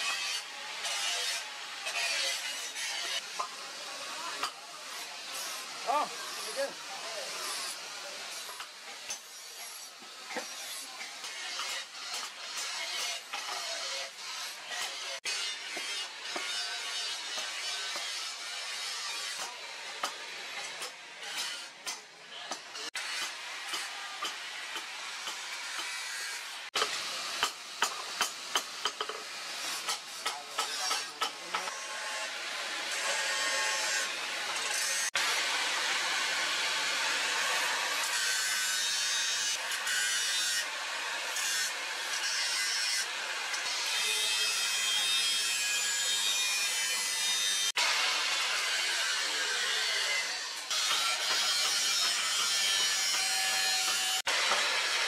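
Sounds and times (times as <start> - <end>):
angle grinder grinding steel: 0.0 - 55.0.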